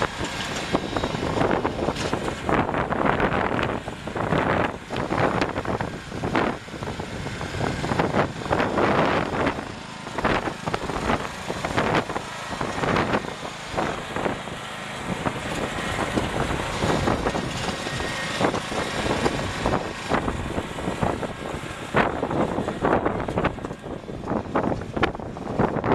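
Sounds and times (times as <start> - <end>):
mower engine running: 0.0 - 25.9
wind on microphone: 0.0 - 25.9.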